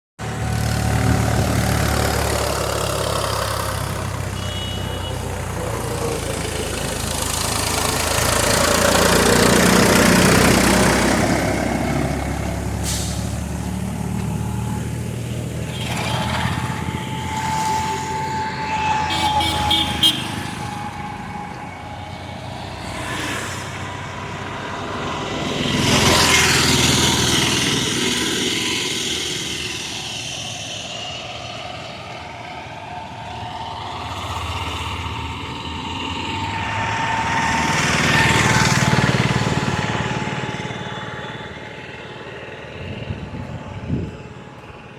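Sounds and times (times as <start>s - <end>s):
road vehicles passing: 0.2s - 44.9s.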